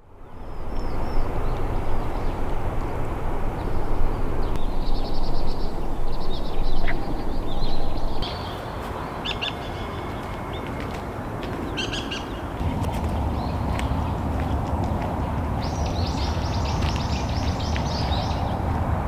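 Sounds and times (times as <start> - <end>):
steady rushing background noise: 0.0 - 19.0
songbirds chirping and trilling: 0.1 - 19.0.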